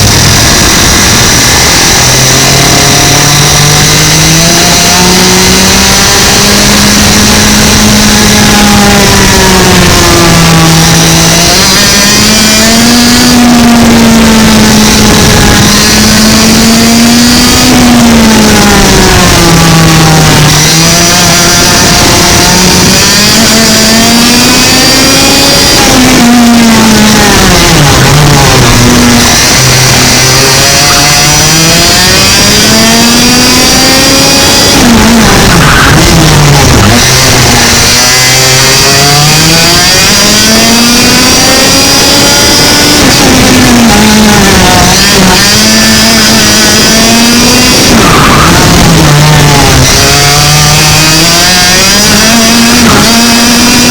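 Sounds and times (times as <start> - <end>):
kart engine at full throttle: 0.0 - 53.9.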